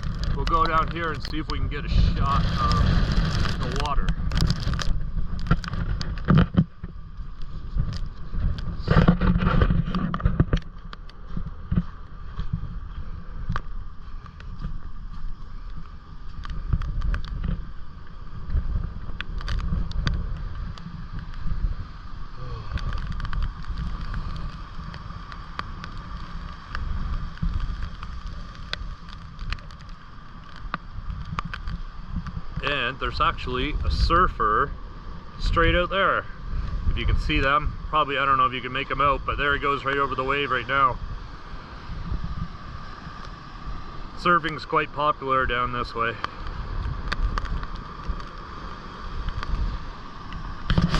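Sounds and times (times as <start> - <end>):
heavy storm surf: 0.0 - 50.9
strong wind on microphone: 0.0 - 50.9.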